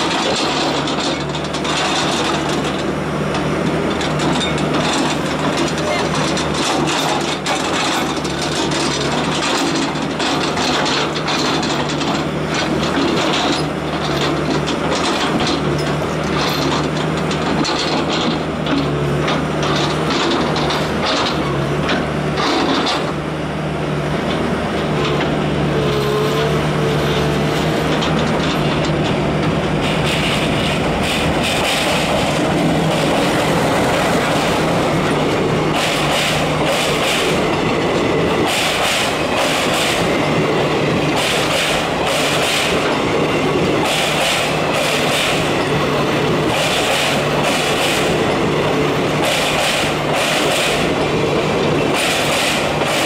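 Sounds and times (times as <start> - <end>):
diesel locomotive chugging: 0.0 - 53.0
wheels clattering on rails: 0.0 - 53.0.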